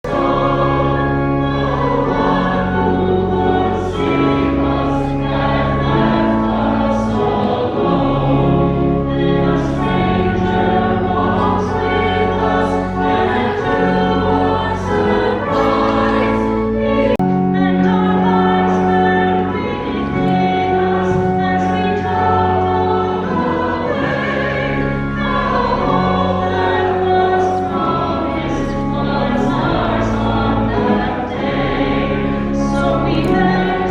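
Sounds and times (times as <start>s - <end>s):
choir singing: 0.0s - 33.9s
sustained low bass notes: 0.0s - 33.9s.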